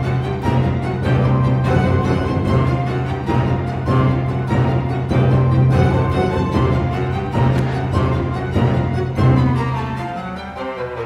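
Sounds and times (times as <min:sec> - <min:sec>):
low string line: 0:00.0 - 0:11.0
orchestral string music: 0:00.0 - 0:11.0.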